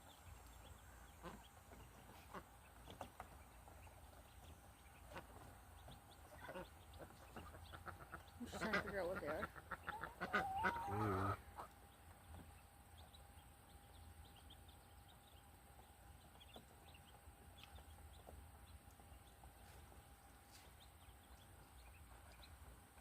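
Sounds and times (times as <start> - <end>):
baby birds peeping: 0.0 - 23.0
faint steady hum: 0.0 - 23.0.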